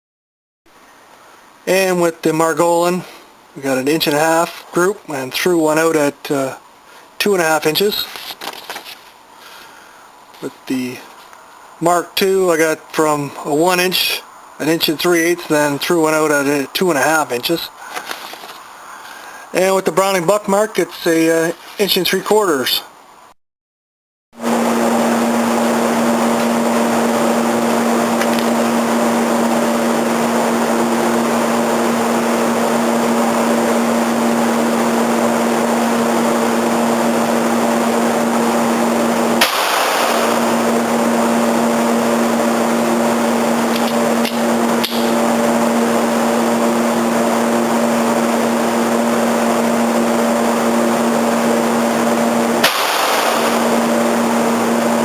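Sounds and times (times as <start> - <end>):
steady mechanical hum: 0.7 - 23.3, 24.4 - 55.0.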